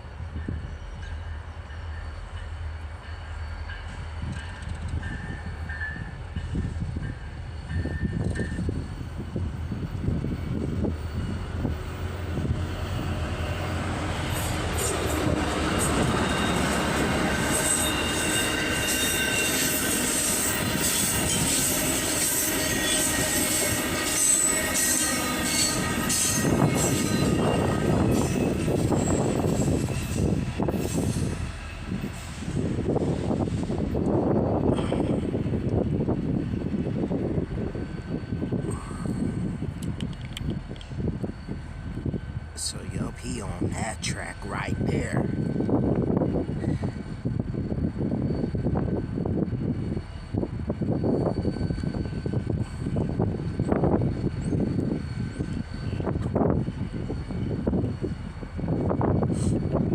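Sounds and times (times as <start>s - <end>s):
train rumbling past: 0.0s - 59.9s
wheels squealing on rails: 0.2s - 43.7s, 45.1s - 59.9s.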